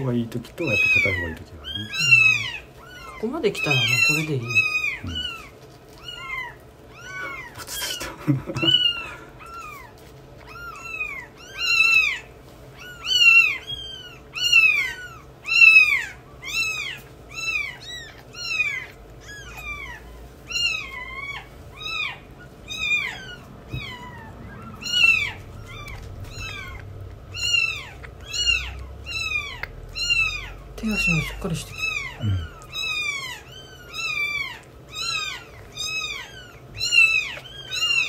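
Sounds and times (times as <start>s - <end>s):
kitten mewing: 0.6s - 38.0s.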